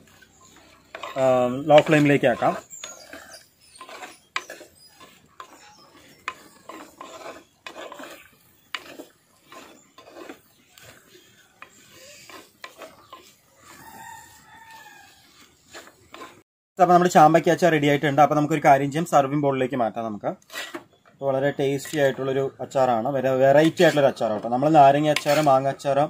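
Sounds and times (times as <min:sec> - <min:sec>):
ladle scraping in clay pot: 0:00.0 - 0:16.4, 0:20.4 - 0:21.1, 0:21.7 - 0:26.0.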